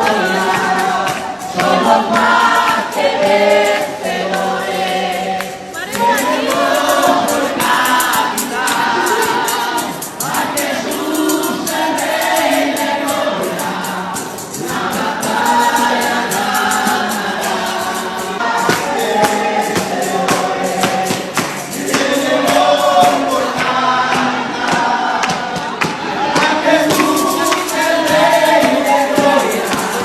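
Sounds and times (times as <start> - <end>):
group singing a gospel hymn: 0.0 - 30.0
hand percussion: 0.0 - 30.0.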